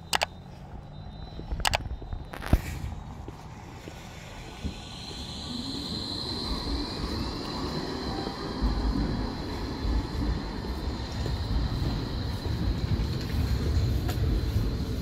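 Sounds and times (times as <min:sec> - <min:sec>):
low rumble of rail vehicle: 0:00.0 - 0:15.0
rail wheels squealing: 0:00.0 - 0:15.0.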